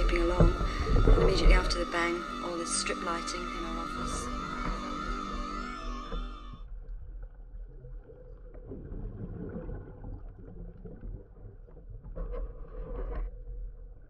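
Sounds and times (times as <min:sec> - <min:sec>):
faint hum: 0:00.0 - 0:13.7
underwater rumble: 0:00.0 - 0:14.0.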